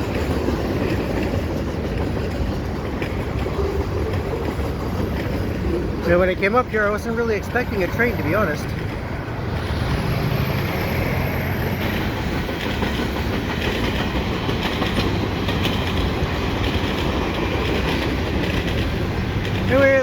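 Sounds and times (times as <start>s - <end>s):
steel wheels rumbling on rail: 0.0s - 20.0s
wheels clacking over rail joints: 0.0s - 20.0s.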